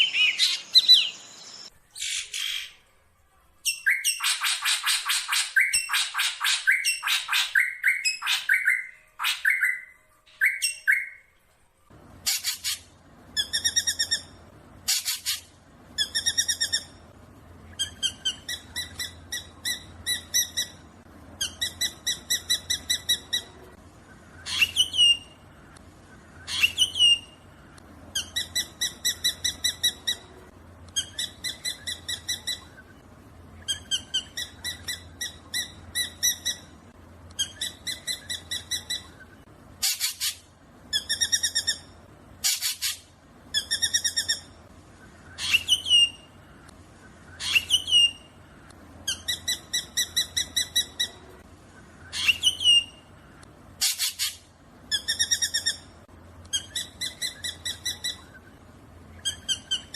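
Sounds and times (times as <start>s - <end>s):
faint low hum: 0.0s - 59.9s.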